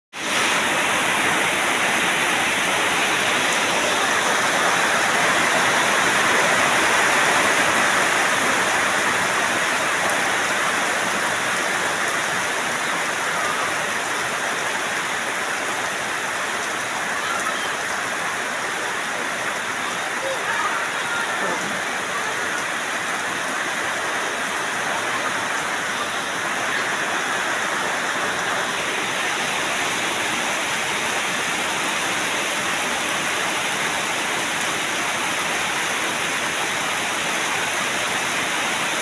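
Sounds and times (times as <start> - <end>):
heavy rain pouring: 0.1 - 39.0.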